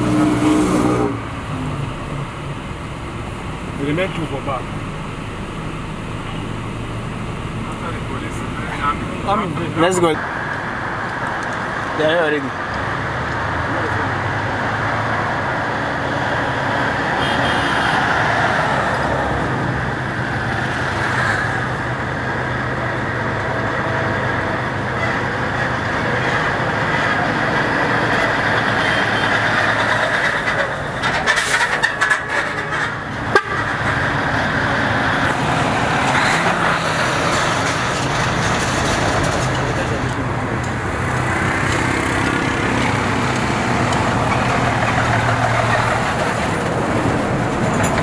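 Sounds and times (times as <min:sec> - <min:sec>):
road traffic: 0:00.0 - 0:48.0
vehicle engine running: 0:00.0 - 0:48.0.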